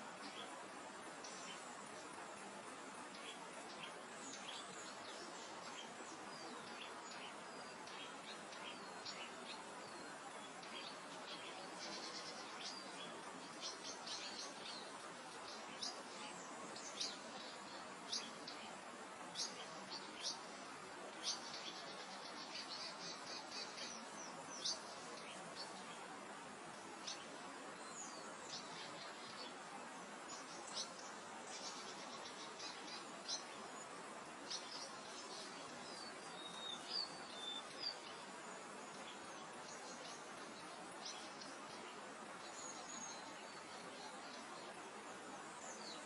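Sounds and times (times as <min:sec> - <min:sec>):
small birds chirping: 0:00.0 - 0:46.0
soft wind: 0:00.0 - 0:46.0.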